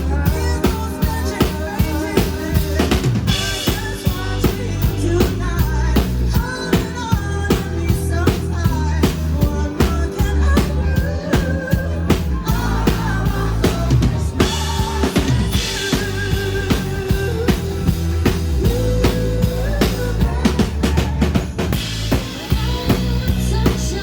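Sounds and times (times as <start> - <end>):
drum kit beat: 0.0 - 24.0
live band playing: 0.0 - 24.0.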